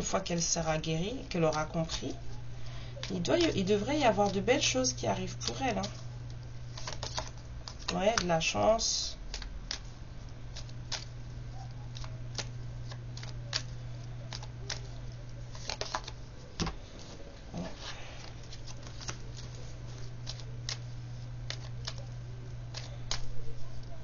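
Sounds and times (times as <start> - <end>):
steady low hum: 0.0 - 24.0
cards being shuffled: 0.4 - 24.0.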